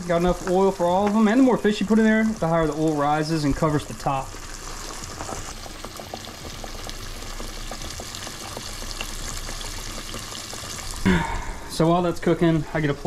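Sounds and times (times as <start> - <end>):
fish frying in hot oil: 0.0 - 13.0
oil sizzling and popping: 0.0 - 13.0.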